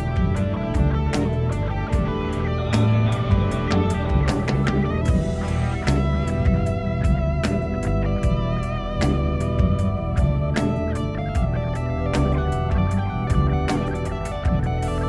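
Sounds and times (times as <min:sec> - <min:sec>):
bass: 0:00.0 - 0:15.0
drum kit beat: 0:00.0 - 0:15.0
electric guitar held notes: 0:00.0 - 0:15.0.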